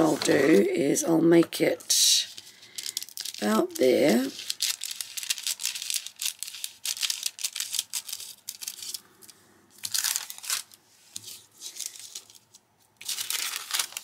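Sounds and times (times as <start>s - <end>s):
paper rustling: 0.0s - 0.6s, 2.2s - 9.0s, 9.8s - 14.0s.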